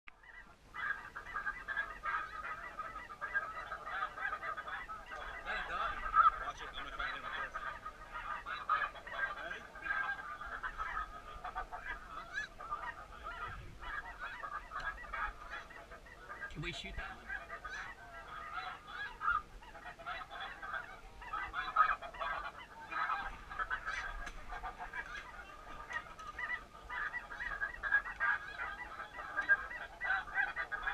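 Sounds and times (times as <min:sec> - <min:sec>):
geese yelping calls: 0:00.2 - 0:30.9.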